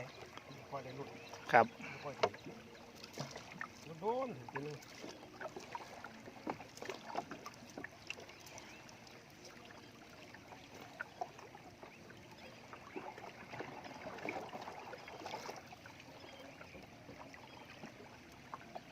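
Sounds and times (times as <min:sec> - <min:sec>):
water splashing and dripping: 0:00.0 - 0:11.9, 0:12.6 - 0:15.9.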